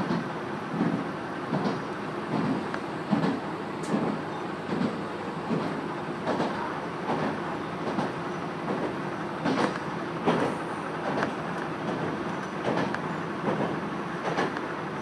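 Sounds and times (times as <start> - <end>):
train wheels rumbling: 0.0 - 15.0
wheels clicking over rail joints: 0.8 - 14.7.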